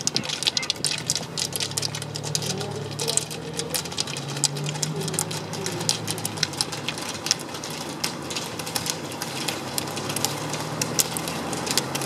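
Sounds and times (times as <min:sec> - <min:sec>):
ski-pole tips clicking on road: 0:00.0 - 0:12.0.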